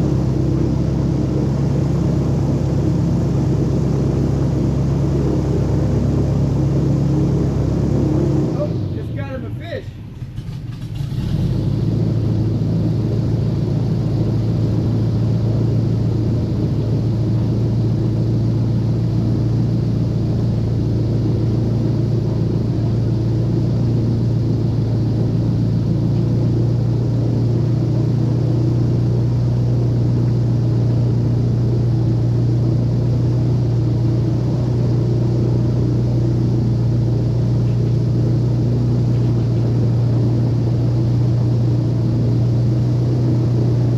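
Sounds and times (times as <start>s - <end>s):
airboat engine drone: 0.0s - 43.9s.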